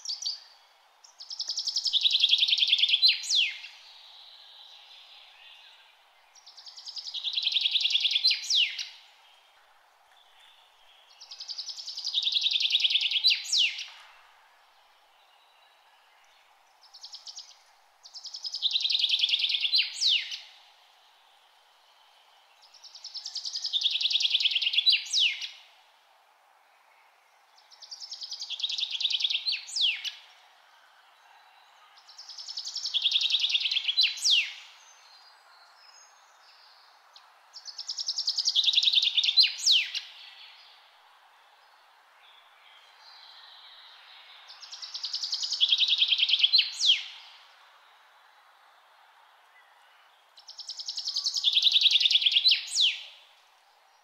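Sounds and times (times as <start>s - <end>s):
faint background hiss: 0.0s - 54.0s
songbird singing: 0.0s - 54.0s.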